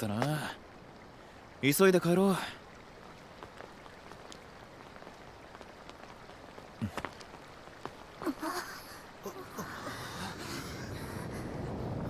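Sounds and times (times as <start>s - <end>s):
soft crackles and ticks: 0.0s - 10.1s
background hiss: 0.0s - 12.0s.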